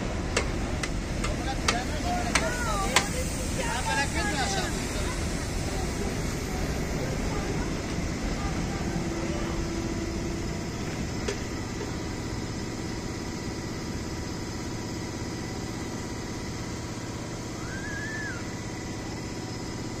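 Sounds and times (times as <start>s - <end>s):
engine idling with low rumble: 0.0s - 20.0s.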